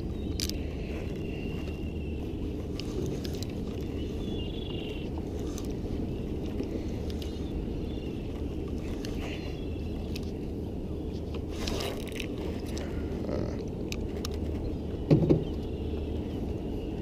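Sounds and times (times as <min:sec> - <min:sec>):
wind noise: 0:00.0 - 0:17.0.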